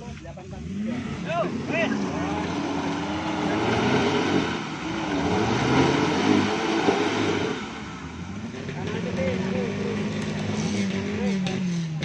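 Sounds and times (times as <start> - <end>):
engine revving under load: 0.4 - 12.0.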